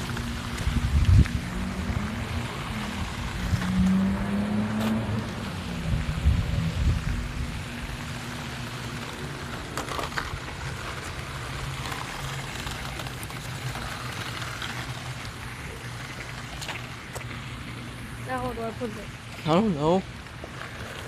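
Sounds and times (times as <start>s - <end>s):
toy car electric motor humming: 0.0s - 4.0s, 5.5s - 21.0s
continuous hiss: 0.0s - 21.0s.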